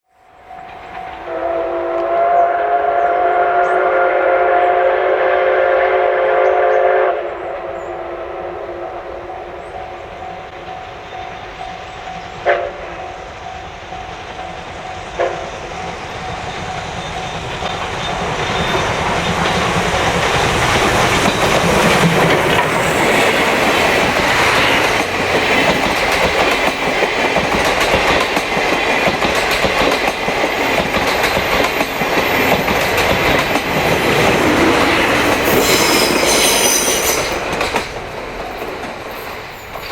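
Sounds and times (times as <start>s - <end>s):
steam train passing: 0.1s - 39.9s.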